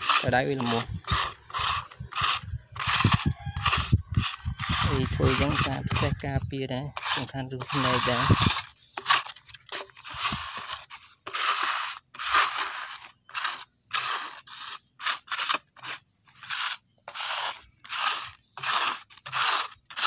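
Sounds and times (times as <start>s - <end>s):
metal scraper on wet wood: 0.0s - 20.0s.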